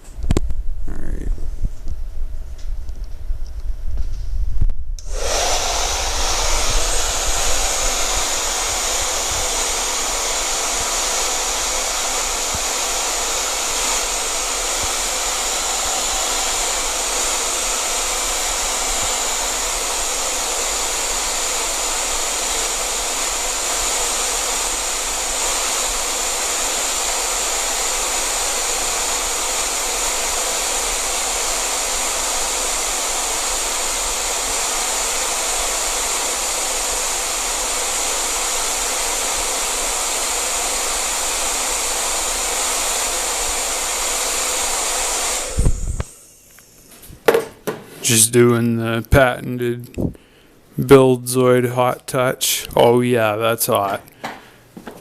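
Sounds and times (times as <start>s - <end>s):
hot-air blower running: 5.0s - 48.4s, 53.8s - 55.0s.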